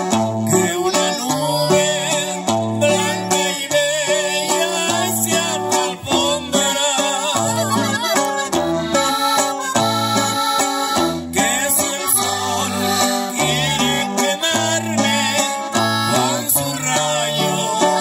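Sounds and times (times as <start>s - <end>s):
accordion melody: 0.0s - 18.0s
bass line: 0.0s - 18.0s
strummed guitar: 0.0s - 18.0s.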